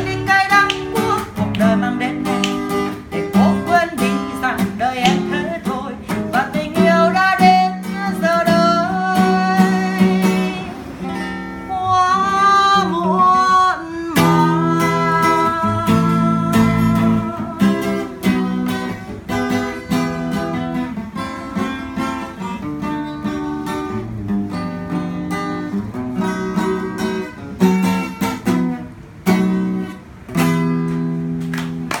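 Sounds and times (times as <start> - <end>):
acoustic guitar strummed chords: 0.0 - 32.0.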